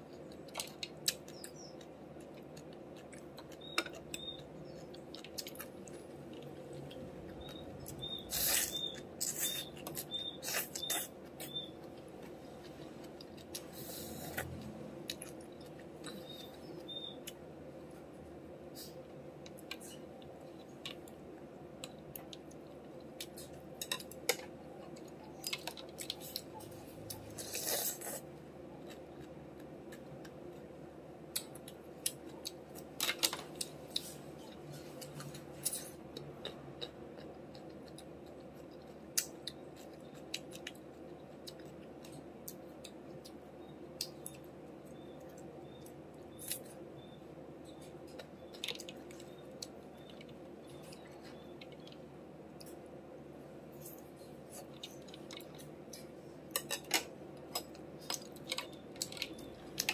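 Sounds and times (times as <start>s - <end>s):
chewing and crunching: 0.0s - 17.4s, 18.8s - 52.8s, 53.7s - 59.9s
steady background hum: 0.0s - 59.9s.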